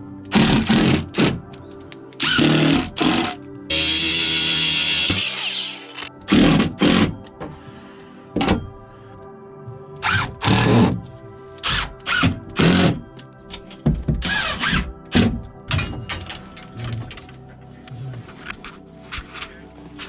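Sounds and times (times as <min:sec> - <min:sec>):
music playing on a radio: 0:00.0 - 0:20.0.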